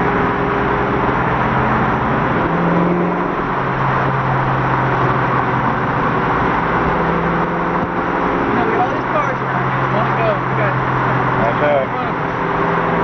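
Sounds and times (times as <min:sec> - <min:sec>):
car engine droning: 0:00.0 - 0:13.0
road and traffic noise: 0:00.0 - 0:13.0.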